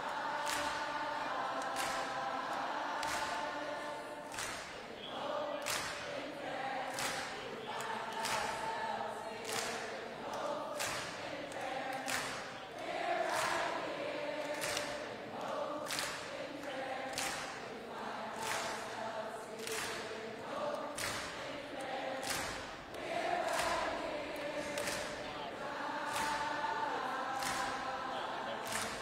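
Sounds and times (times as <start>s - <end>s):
crowd singing in unison: 0.0s - 29.0s.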